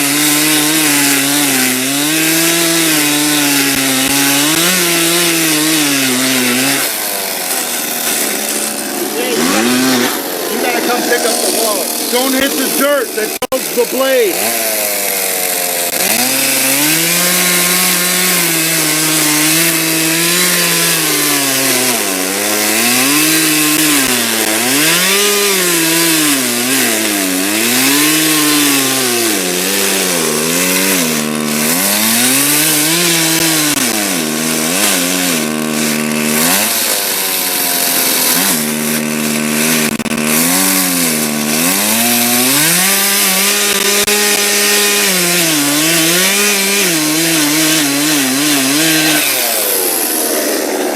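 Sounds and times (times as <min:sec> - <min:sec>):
chainsaw cutting logs: 0:00.0 - 0:50.9.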